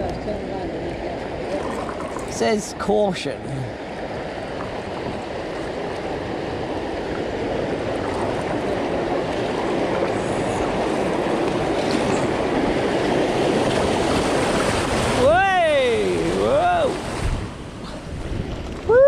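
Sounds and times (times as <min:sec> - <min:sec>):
river water rushing through weir: 0:00.0 - 0:19.0.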